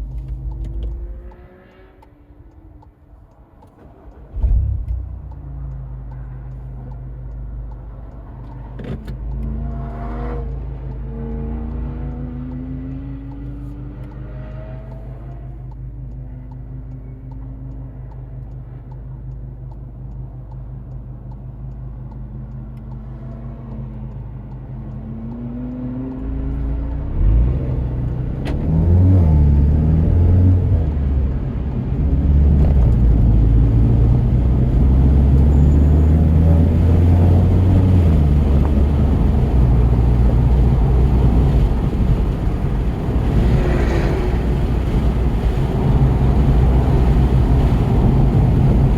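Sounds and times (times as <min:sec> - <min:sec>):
car engine revving: 0:00.0 - 0:18.7, 0:21.2 - 0:48.9.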